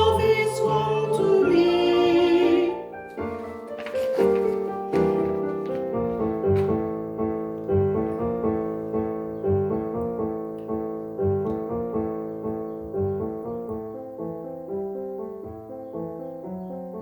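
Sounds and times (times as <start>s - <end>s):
piano playing chords: 0.0s - 17.0s.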